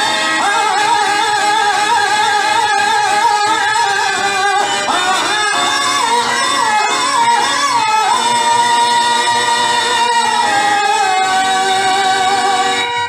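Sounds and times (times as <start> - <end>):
harmonium accompaniment: 0.0 - 13.0
man singing verse: 0.0 - 13.0.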